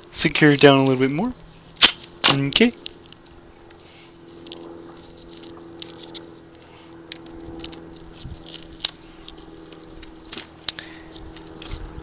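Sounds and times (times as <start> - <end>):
steady low hum: 0.0 - 12.0
hands handling skateboard parts: 1.8 - 12.0.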